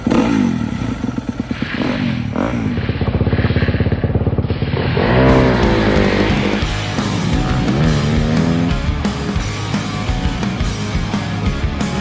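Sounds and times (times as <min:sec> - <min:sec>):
motorbike engine revving: 0:00.0 - 0:10.5.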